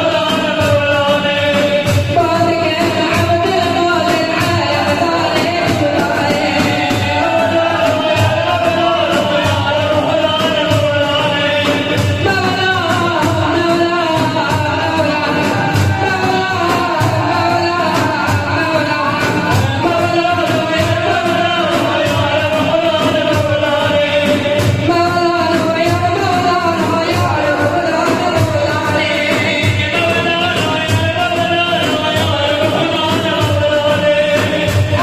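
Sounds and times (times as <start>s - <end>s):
frame drums beating: 0.0s - 35.0s
men singing together: 0.0s - 35.0s.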